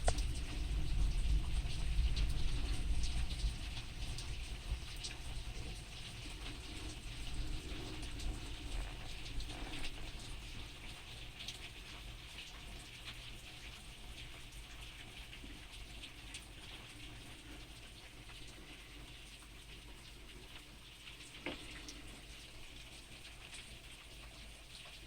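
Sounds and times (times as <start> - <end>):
rain drops pattering: 0.0 - 25.0.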